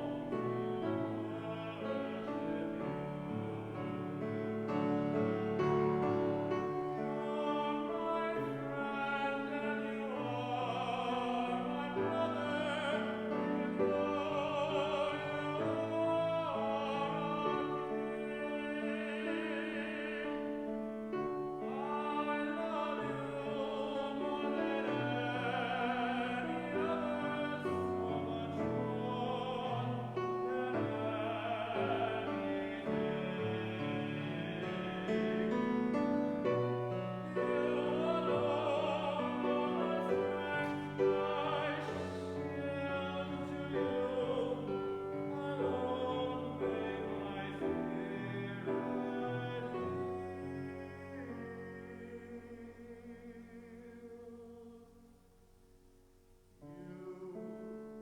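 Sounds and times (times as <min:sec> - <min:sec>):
person singing classical style: 0:00.0 - 0:58.0
piano: 0:00.0 - 0:58.0.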